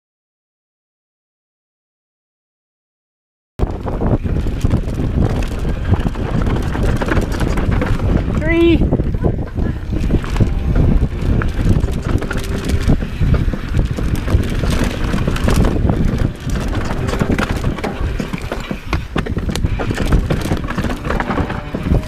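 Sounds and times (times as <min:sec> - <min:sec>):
bike rattling over bumps: 0:03.6 - 0:22.0
tyres on loose dirt: 0:03.6 - 0:22.0
wind on microphone: 0:03.6 - 0:22.0.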